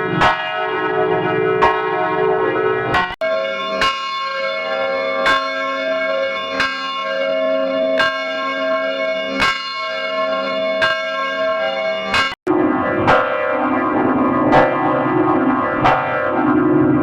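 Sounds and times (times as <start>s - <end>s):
church bell tolling: 0.0s - 17.0s.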